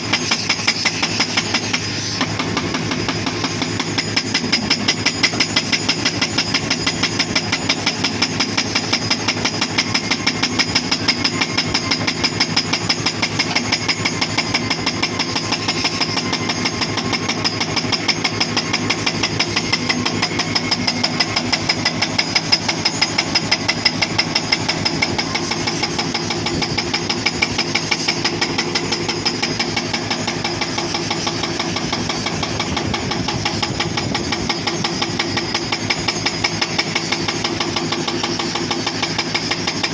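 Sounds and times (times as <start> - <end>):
excavator engine running: 0.0 - 39.9
hydraulic breaker pounding rock: 0.0 - 39.9.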